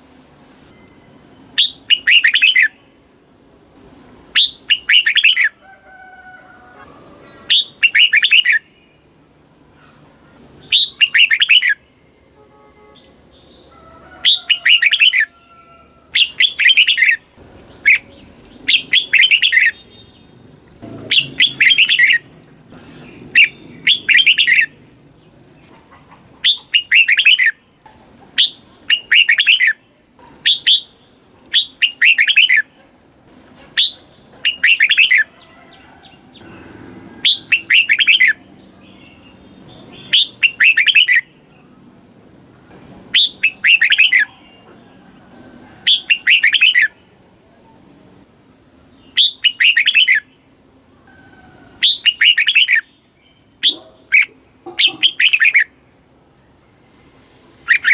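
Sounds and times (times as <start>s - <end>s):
bird singing warbled phrases: 0.7s - 3.0s, 4.2s - 5.6s, 7.2s - 12.2s, 12.8s - 15.3s, 16.0s - 32.8s, 33.6s - 35.4s, 36.3s - 44.7s, 45.8s - 47.2s, 48.4s - 51.1s, 51.8s - 55.8s, 57.6s - 57.9s.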